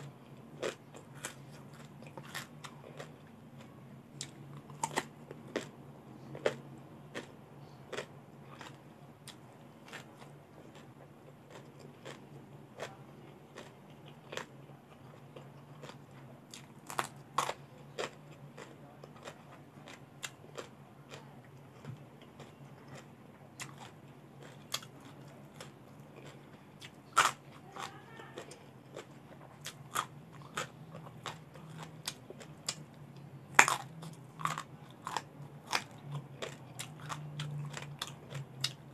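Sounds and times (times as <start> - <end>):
faint low hum: 0.0 - 38.9
crunching raw vegetables: 0.6 - 32.9, 33.5 - 38.9.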